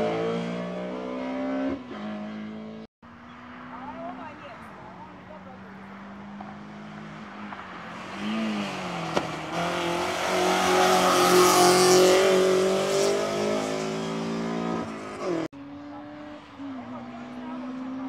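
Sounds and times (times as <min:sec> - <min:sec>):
race car engine passing: 0:00.0 - 0:18.0.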